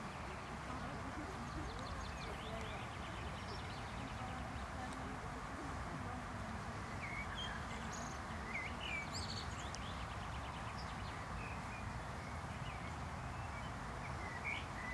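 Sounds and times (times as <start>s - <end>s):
outdoor background hiss: 0.0s - 14.9s
small birds chirping: 0.0s - 14.9s.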